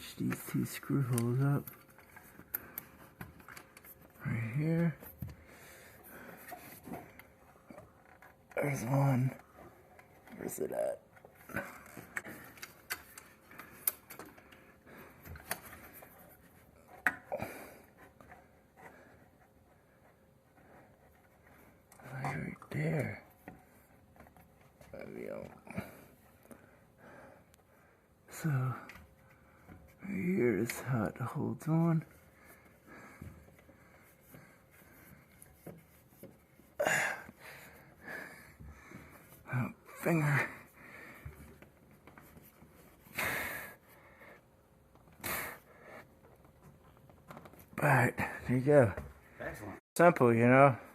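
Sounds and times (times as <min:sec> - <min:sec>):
handling noises of fan parts: 0:00.0 - 0:43.2.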